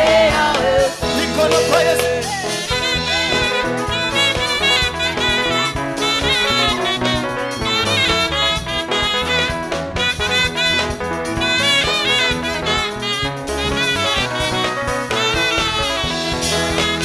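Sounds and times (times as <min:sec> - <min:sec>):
electric guitar melody: 0:00.0 - 0:17.0
live band playing: 0:00.0 - 0:17.0
saxophone melody: 0:00.0 - 0:17.0.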